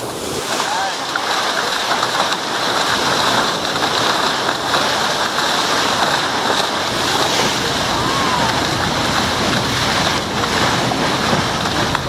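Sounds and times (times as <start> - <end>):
boat bow spray rushing: 0.0 - 12.0.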